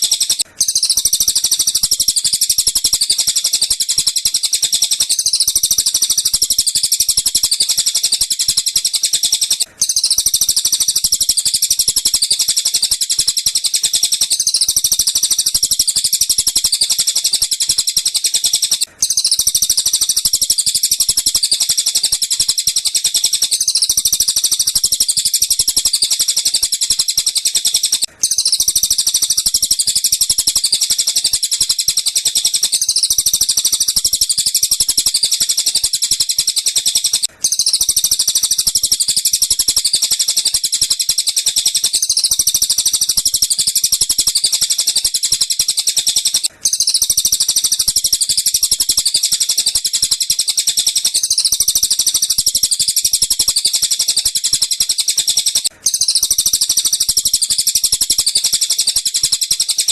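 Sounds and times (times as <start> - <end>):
high-pitched bird chirping: 0.0 - 59.9.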